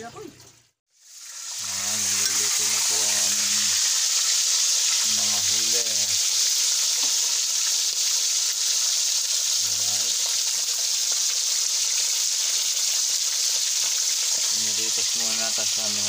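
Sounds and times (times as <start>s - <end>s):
fish sizzling in hot oil: 0.9s - 16.0s.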